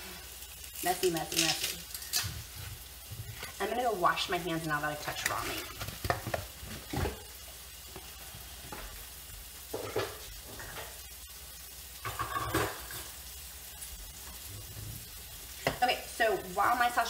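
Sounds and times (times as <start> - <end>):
sausage sizzling in a pan: 0.0 - 17.0.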